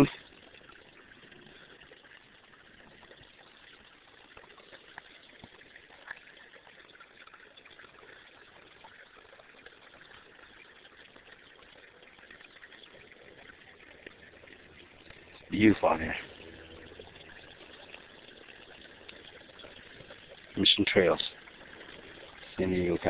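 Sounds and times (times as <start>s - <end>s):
stream trickling: 0.0s - 23.0s.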